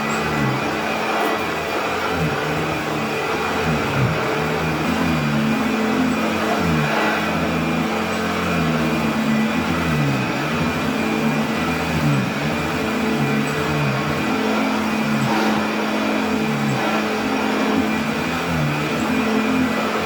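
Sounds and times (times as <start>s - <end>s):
vacuum cleaner motor hum: 0.0s - 20.0s.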